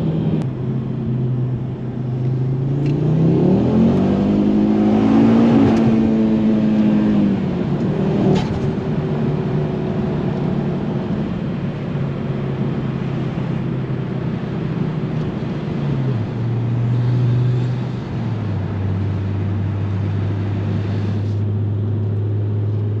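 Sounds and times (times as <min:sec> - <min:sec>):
car engine accelerating and cruising: 0:00.0 - 0:23.0.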